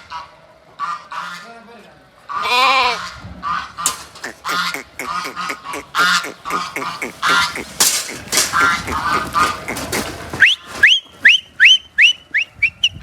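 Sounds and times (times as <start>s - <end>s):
farm animals calling: 2.2s - 13.0s.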